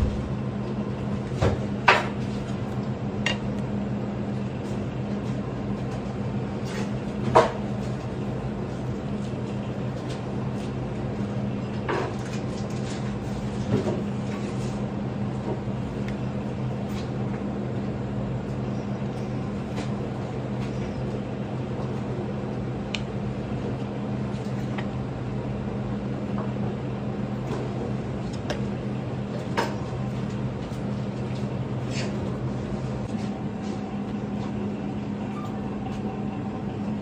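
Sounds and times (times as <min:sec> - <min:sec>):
low mechanical hum of machinery: 0:00.0 - 0:37.0.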